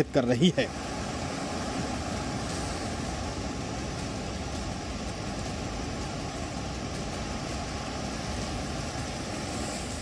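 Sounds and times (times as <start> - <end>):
cars driving through floodwater: 0.0 - 10.0
engine rumble: 0.0 - 10.0.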